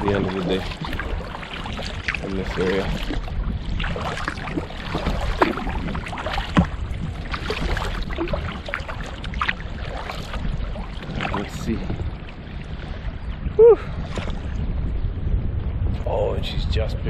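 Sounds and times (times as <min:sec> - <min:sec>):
water splashing against kayak hull: 0:00.0 - 0:14.9
wind rumble on microphone: 0:00.0 - 0:17.0.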